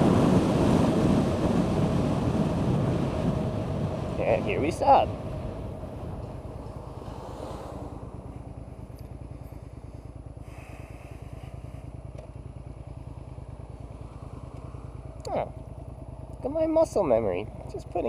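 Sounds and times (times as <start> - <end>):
motorcycle engine idling: 1.0 - 18.0.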